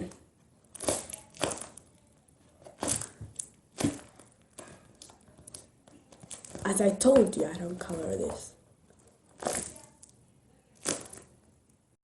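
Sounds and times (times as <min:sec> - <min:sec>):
foam toy crackling and rustling: 0:00.6 - 0:11.5.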